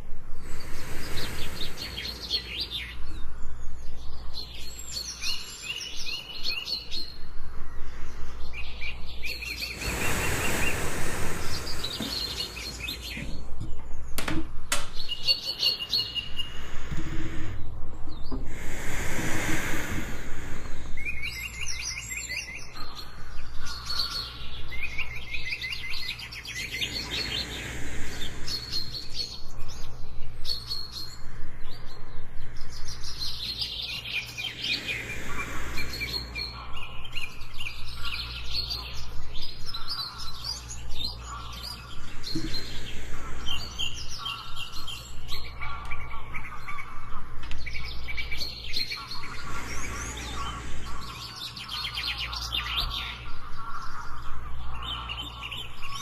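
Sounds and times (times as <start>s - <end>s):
steady low hum: 0.0s - 5.6s, 7.0s - 15.0s, 16.1s - 56.0s
birds chirping and trilling: 0.0s - 56.0s.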